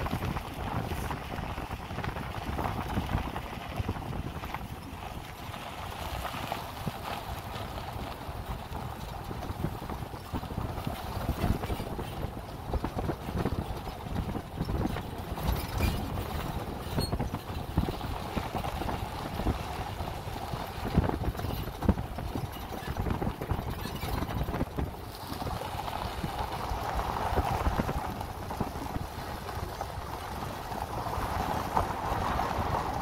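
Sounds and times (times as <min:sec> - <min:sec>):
engine and tyres rumbling: 0:00.0 - 0:33.0.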